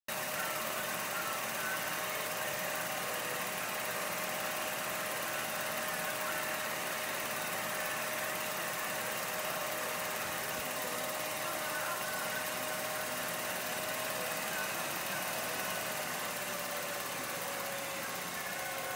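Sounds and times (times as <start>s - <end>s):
film projector whirring: 0.1s - 18.9s.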